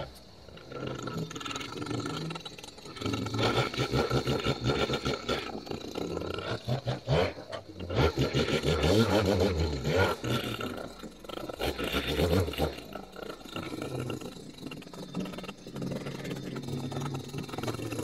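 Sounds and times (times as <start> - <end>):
leaf blower engine revving: 0.0 - 18.0.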